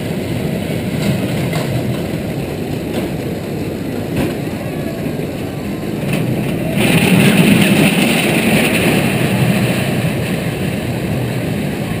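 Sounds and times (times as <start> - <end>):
roller coaster wheels rumbling on rails: 0.0 - 12.0.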